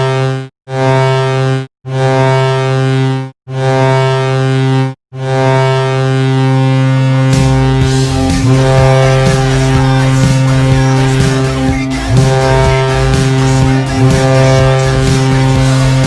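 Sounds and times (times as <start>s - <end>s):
hockey goal horn blasts: 0.0s - 16.0s.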